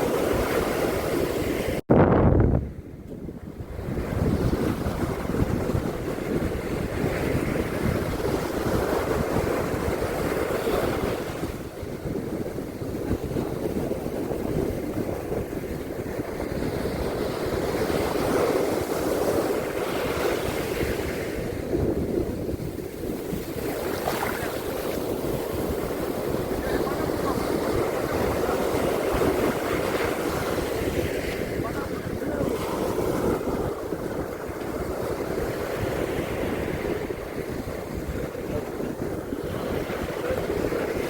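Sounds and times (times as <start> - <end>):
ocean waves washing on beach: 0.0 - 1.8, 2.6 - 41.0
wind on microphone: 0.0 - 41.0.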